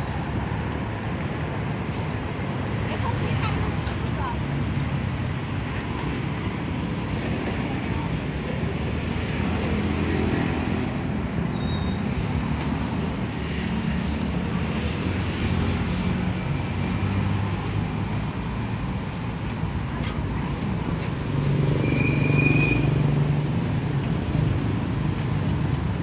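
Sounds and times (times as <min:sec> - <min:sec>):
low rumble of passing traffic: 0:00.0 - 0:26.0.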